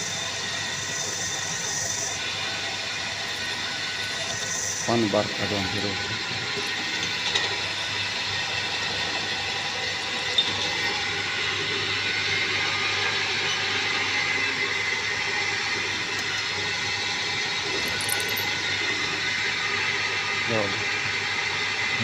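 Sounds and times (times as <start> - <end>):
drilling machine running: 0.0 - 20.7.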